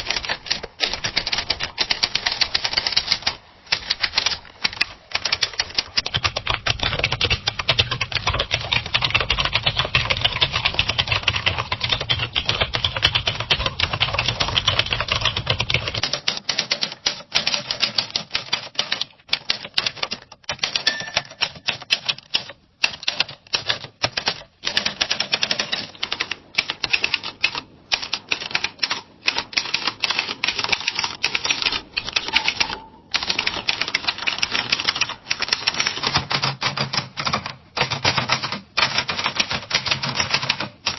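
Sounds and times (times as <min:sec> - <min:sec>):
typewriter typing: 0:00.0 - 0:40.9.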